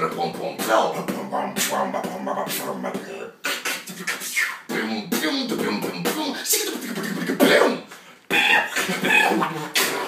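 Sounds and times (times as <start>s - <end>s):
beatboxing vocal percussion: 0.0s - 10.0s.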